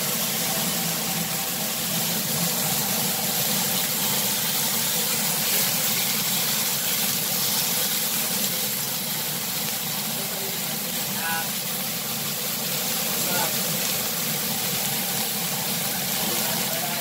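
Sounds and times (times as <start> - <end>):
steaks sizzling in pans: 0.0 - 17.0.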